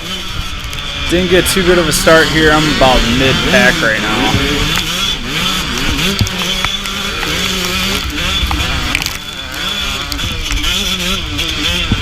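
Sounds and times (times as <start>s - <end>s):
dirt bike engine revving: 0.0s - 12.0s
other dirt bikes running: 0.0s - 12.0s.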